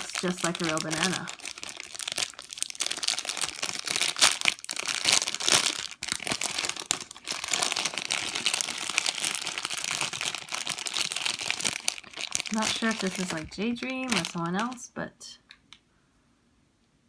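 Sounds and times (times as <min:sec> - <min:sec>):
packaging crinkling and rustling: 0:00.0 - 0:14.9.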